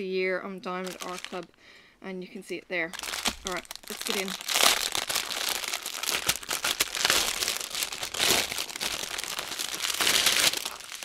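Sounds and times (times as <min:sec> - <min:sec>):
plastic packaging crinkling: 0:00.7 - 0:01.6, 0:02.8 - 0:11.0.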